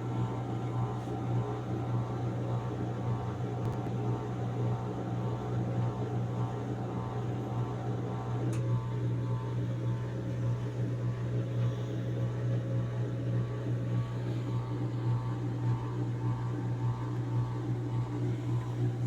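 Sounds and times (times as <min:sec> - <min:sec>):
steady low hum: 0:00.0 - 0:19.0
washing machine spinning: 0:00.0 - 0:19.0.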